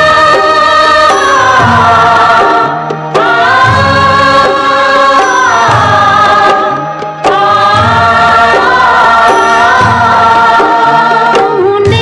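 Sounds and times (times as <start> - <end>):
chorus singing long notes: 0.0 - 12.0
orchestral backing with bass: 0.0 - 12.0.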